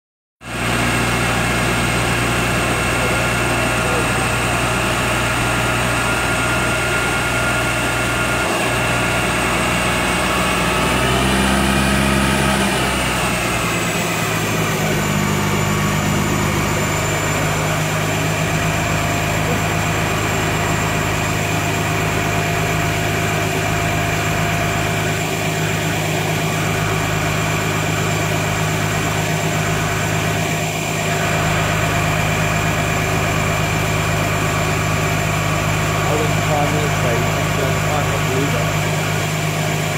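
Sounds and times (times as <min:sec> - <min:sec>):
diesel engine droning on a dyno: 0:00.4 - 0:39.9.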